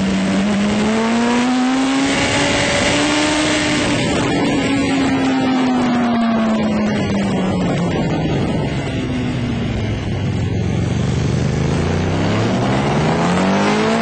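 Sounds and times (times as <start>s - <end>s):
motorcycle engine drone: 0.0s - 14.0s
wind noise: 0.0s - 14.0s.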